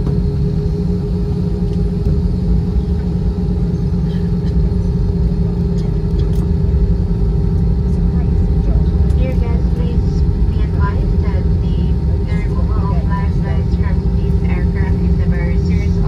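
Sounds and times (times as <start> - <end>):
aircraft engines idling rumble: 0.0 - 16.0
steady cabin hum: 0.0 - 16.0.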